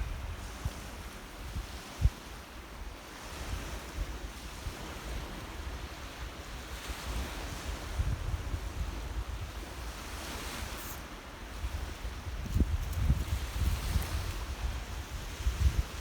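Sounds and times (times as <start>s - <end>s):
wind buffeting microphone: 0.0s - 2.6s, 3.2s - 16.0s
sea waves washing in: 0.0s - 16.0s.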